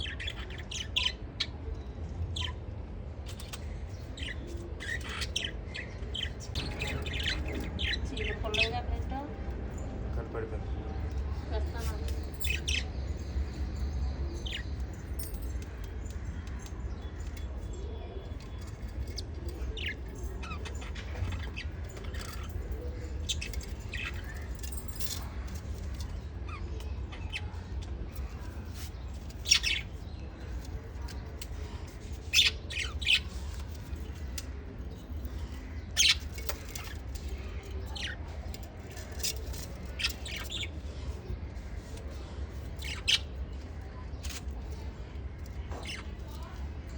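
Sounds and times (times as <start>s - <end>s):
parrot chicks chirping: 0.0s - 2.6s, 3.2s - 10.0s, 11.0s - 46.7s.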